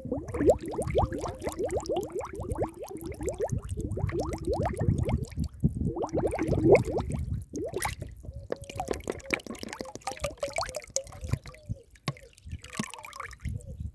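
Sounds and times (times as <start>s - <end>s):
water bubbling: 0.0s - 13.7s.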